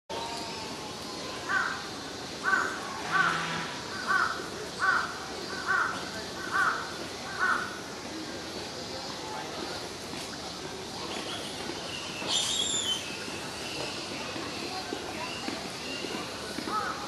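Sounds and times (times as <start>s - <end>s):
steady background noise: 0.1s - 17.0s.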